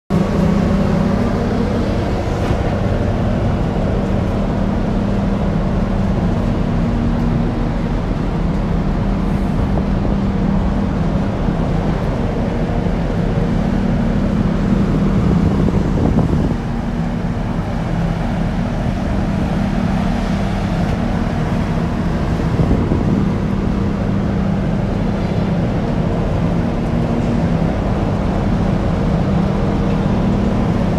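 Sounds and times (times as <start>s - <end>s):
ship engine droning: 0.1s - 30.9s
wind rumbling on microphone: 0.1s - 30.9s.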